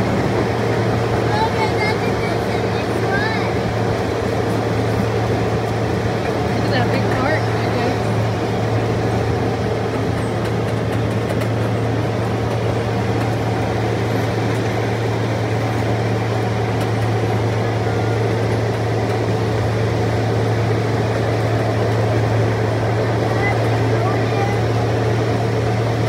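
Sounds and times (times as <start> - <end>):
miniature train engine drone: 0.0 - 26.0
train ride rumble: 0.0 - 26.0.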